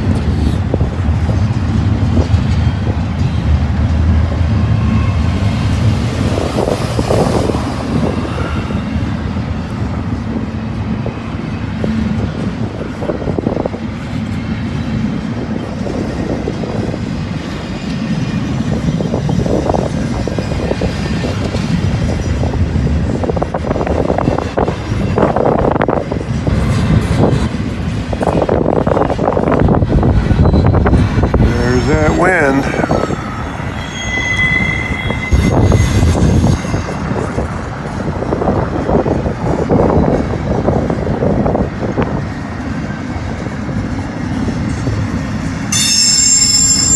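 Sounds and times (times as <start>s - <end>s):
wind buffeting microphone: 0.0s - 45.8s
freight train rumbling past: 0.0s - 46.9s.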